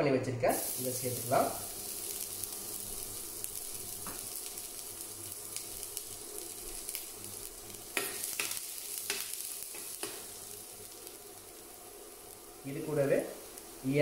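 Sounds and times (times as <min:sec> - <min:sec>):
garlic sizzling in oil: 0:00.5 - 0:14.0.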